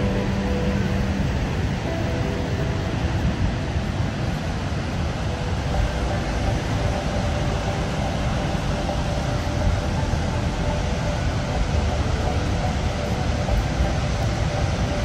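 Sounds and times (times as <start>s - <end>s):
deep rush of falling water: 0.0s - 15.0s.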